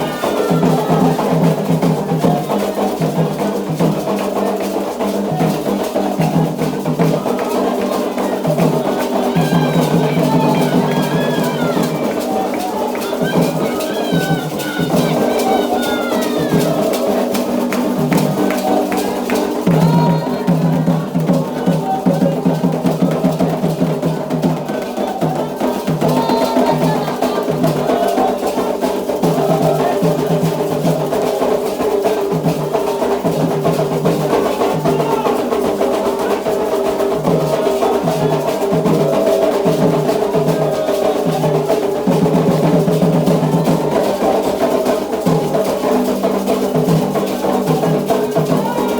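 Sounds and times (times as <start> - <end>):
hand drums: 0.0 - 48.9
people singing: 0.0 - 48.9.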